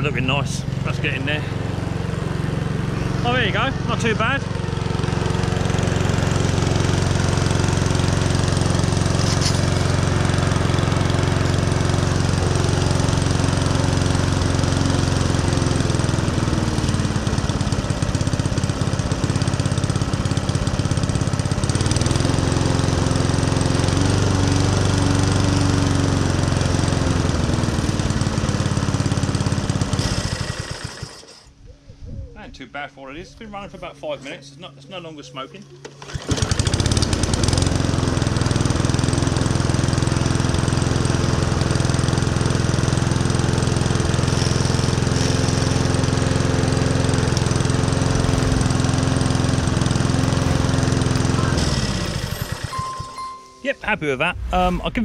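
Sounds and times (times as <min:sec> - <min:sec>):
lawnmower engine running: 0:00.0 - 0:31.6, 0:35.6 - 0:54.0.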